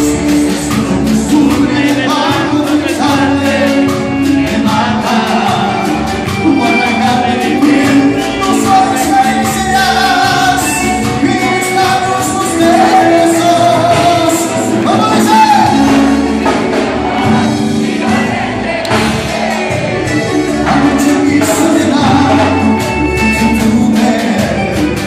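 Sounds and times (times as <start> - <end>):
accordion: 0.0 - 25.0
guitar: 0.0 - 25.0
percussion beat: 0.0 - 25.0
person singing: 0.0 - 25.0.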